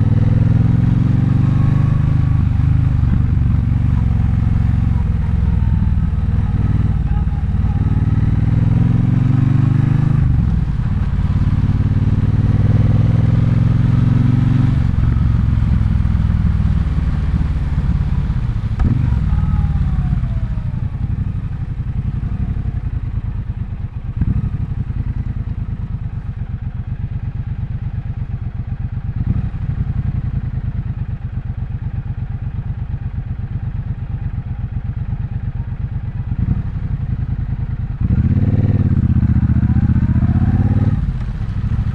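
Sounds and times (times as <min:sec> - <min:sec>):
motorcycle engine revving: 0:00.0 - 0:32.9, 0:34.7 - 0:41.9
motorcycle engine idling low beat: 0:02.2 - 0:08.7, 0:14.7 - 0:41.9.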